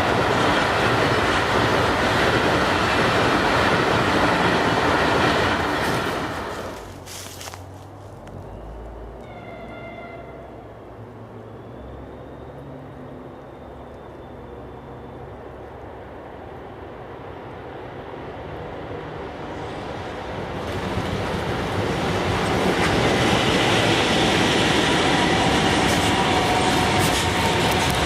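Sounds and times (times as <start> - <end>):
train rolling past: 0.0 - 28.0.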